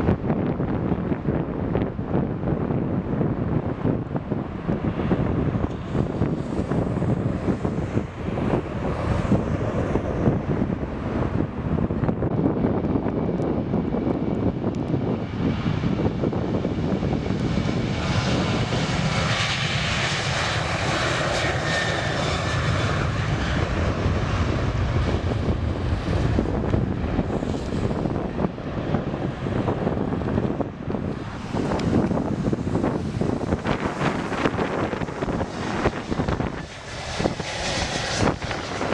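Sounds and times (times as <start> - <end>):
jet engine roar: 0.0 - 38.9.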